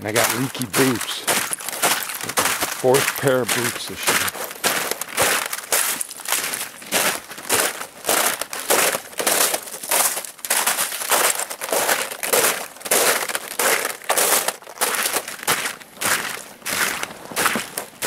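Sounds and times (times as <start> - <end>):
boots crunching on icy snow: 0.0 - 18.0.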